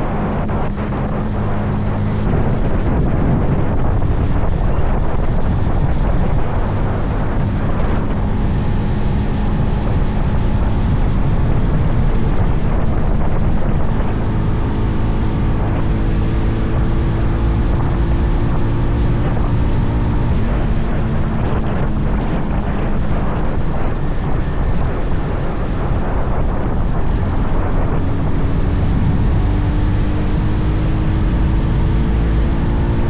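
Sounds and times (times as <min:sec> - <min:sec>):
motorcycle engine at speed: 0:00.0 - 0:33.0
wind noise on microphone: 0:00.0 - 0:33.0.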